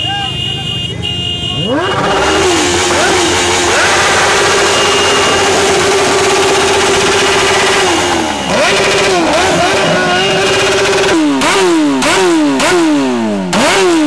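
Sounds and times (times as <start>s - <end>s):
motorcycle engine revving: 1.5s - 14.0s.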